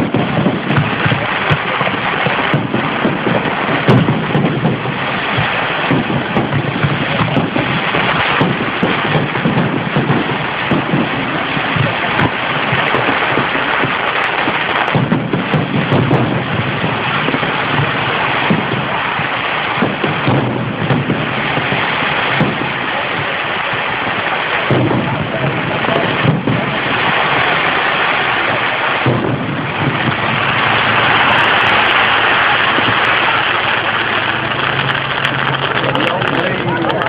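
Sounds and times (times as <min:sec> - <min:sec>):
fireworks crackling and booming: 0:00.0 - 0:37.0.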